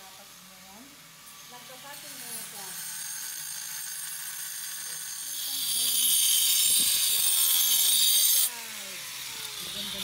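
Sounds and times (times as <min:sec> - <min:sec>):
angle grinder whining: 0:00.0 - 0:10.0
grinder cutting tile: 0:00.0 - 0:10.0.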